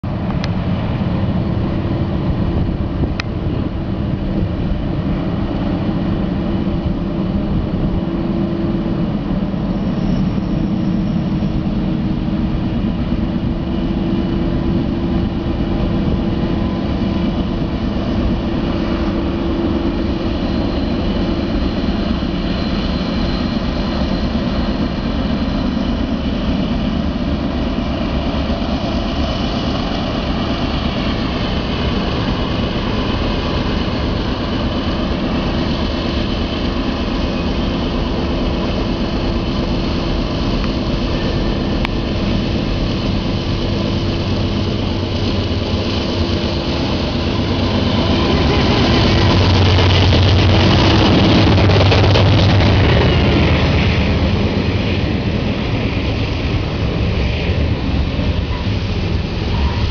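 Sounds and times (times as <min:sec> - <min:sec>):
diesel locomotive engines droning: 0:00.0 - 0:59.9.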